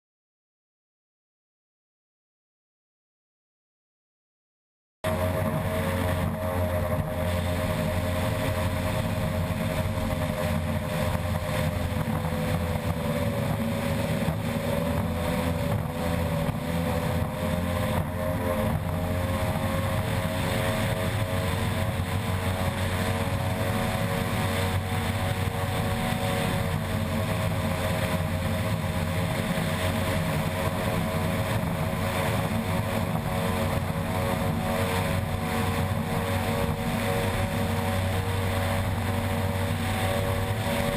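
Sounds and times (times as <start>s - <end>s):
outboard engine at high revs: 5.0s - 40.9s
constant rush of noise: 5.1s - 40.9s.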